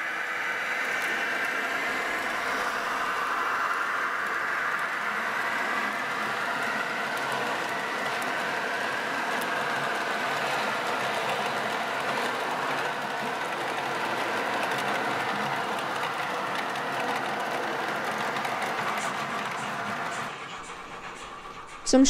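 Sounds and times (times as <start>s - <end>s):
model train wheels rattling: 0.1s - 21.9s.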